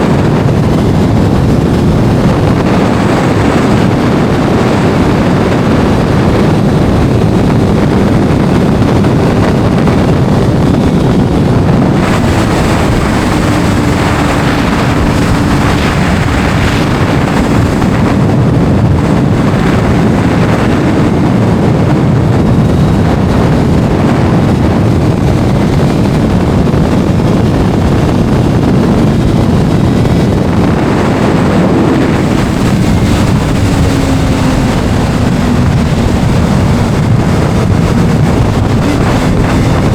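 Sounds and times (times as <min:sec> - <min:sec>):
motorcycle engine at speed: 0:00.0 - 0:39.9
wind noise on microphone: 0:00.0 - 0:39.9.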